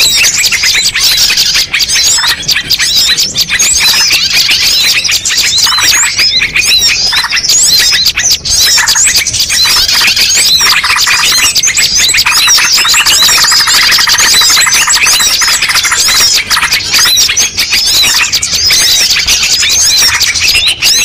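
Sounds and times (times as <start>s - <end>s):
small birds chirping chorus: 0.0s - 21.0s.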